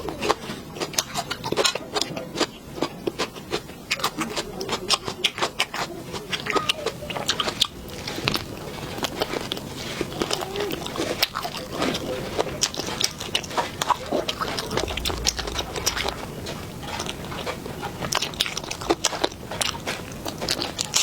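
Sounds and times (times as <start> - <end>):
person chewing and smacking: 0.0 - 21.0.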